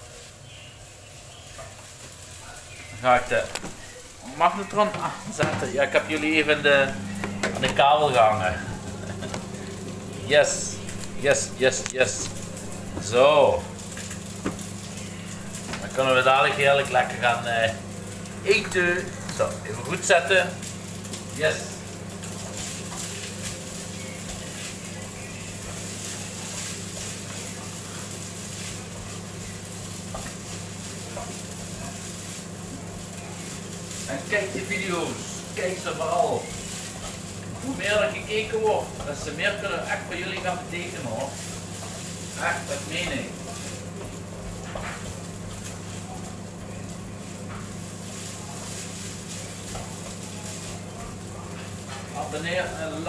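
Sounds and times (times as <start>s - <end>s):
fan hiss: 0.0s - 53.0s
microwave oven humming: 0.0s - 53.0s.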